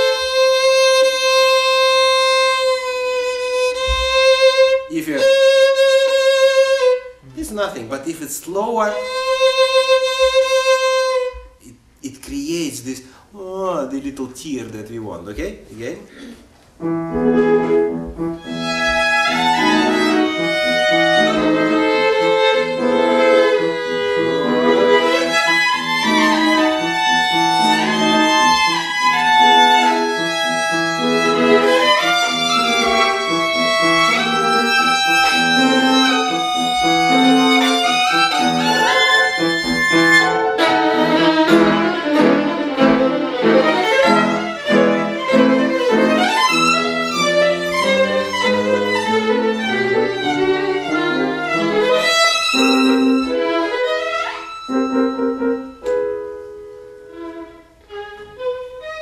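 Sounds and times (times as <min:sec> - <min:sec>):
piano accompaniment: 0:00.0 - 0:11.7, 0:16.7 - 0:59.0
violin melody: 0:00.0 - 0:11.7, 0:16.8 - 0:59.0.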